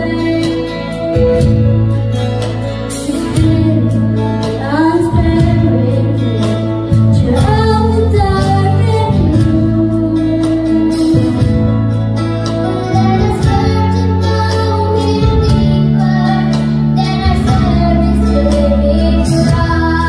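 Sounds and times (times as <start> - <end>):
girl singing into a microphone: 0.0 - 1.5, 3.0 - 11.6, 12.5 - 20.0
instrumental accompaniment: 0.0 - 20.0.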